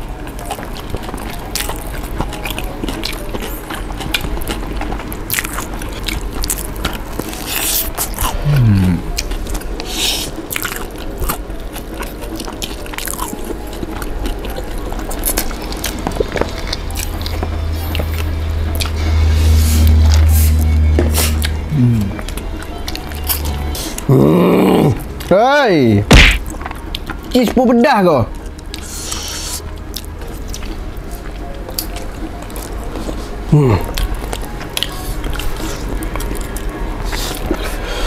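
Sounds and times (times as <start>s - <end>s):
chewing: 0.0s - 25.3s, 26.1s - 27.5s, 28.3s - 38.0s.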